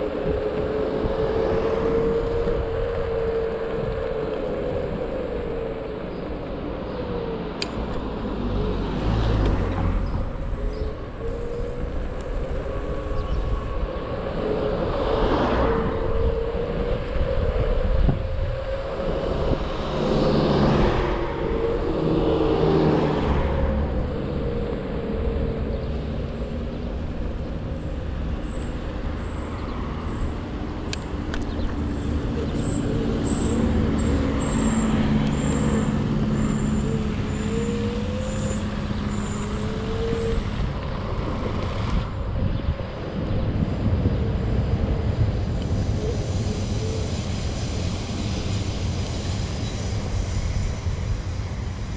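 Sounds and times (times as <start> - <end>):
electric scooter motor whine: 0.0 - 51.9
road traffic passing: 0.0 - 51.9
tyres and wind rumble: 0.0 - 51.9.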